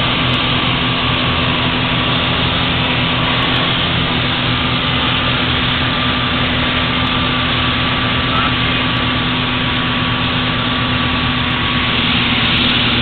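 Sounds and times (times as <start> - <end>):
aircraft engines droning in cabin: 0.0 - 13.0.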